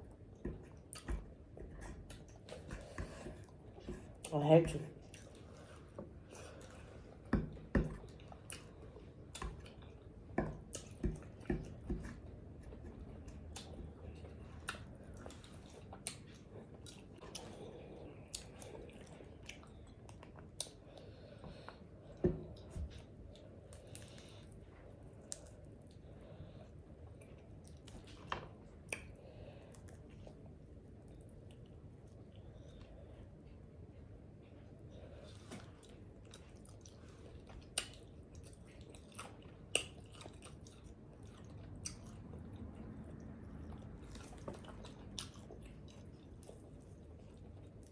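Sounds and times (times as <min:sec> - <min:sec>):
chewing and wet smacking: 0:00.0 - 0:47.9.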